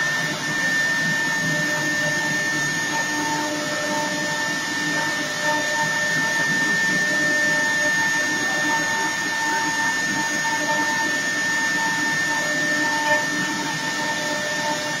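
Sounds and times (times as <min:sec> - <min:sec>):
cnc router spindle whine: 0:00.0 - 0:15.0
bit cutting wood: 0:00.4 - 0:15.0.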